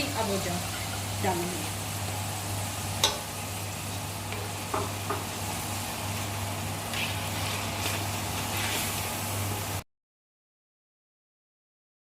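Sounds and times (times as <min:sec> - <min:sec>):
food sizzling in oil: 0:00.0 - 0:09.8.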